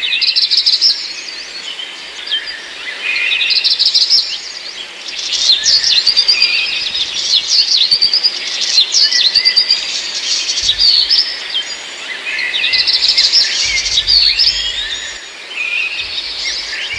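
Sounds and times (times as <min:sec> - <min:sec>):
flock of birds chirping: 0:00.0 - 0:16.9.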